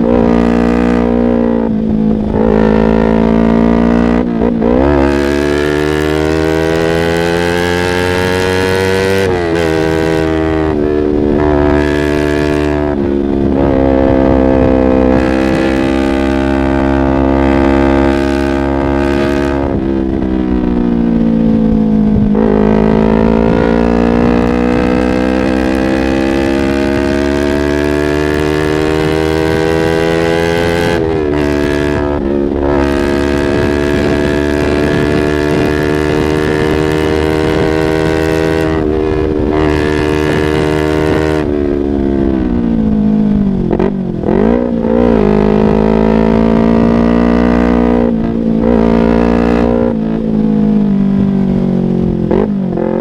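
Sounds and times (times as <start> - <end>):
motorcycle engine under way: 0.0 - 53.0.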